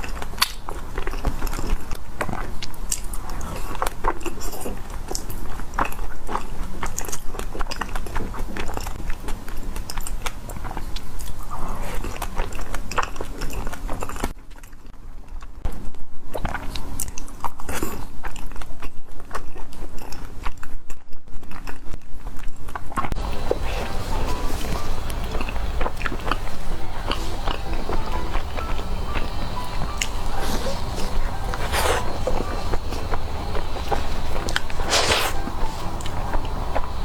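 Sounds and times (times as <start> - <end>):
crunchy chewing: 0.0 - 15.5, 16.3 - 37.0.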